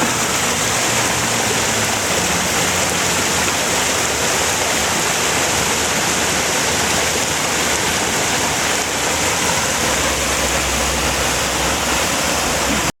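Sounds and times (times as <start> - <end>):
floodwater rushing along a ditch: 0.0 - 13.0.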